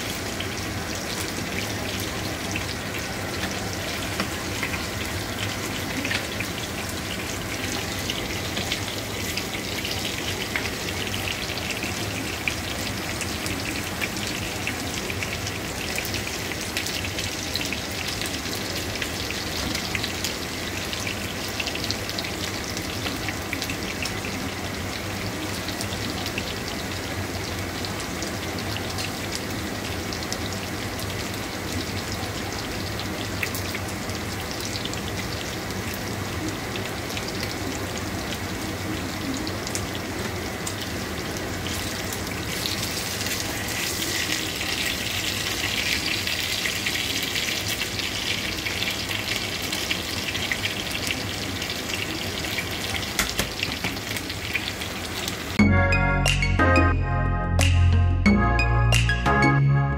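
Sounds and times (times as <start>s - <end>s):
meat sizzling in hot oil: 0.0s - 55.6s.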